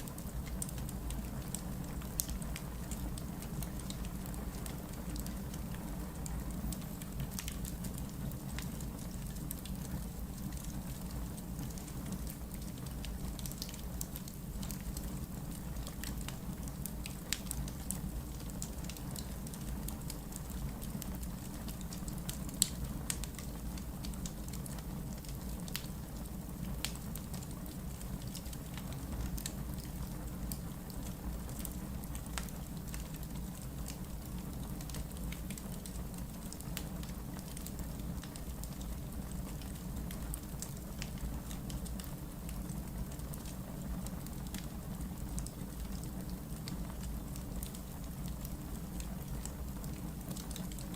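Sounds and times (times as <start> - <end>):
fire burning: 0.0 - 50.9.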